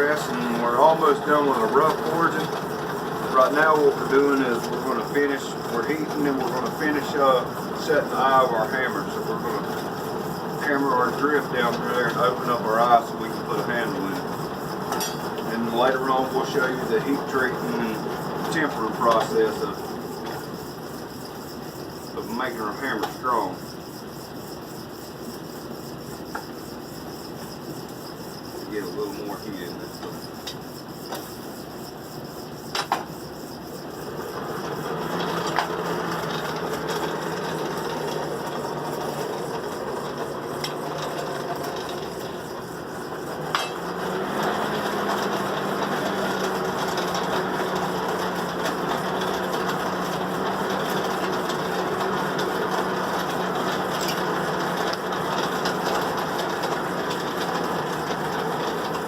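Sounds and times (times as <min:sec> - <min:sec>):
forge blower roaring: 0:00.0 - 0:59.0.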